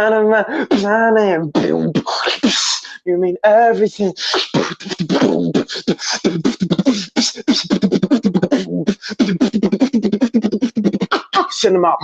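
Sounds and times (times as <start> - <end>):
beatboxing: 0.7 - 2.9, 4.0 - 11.6.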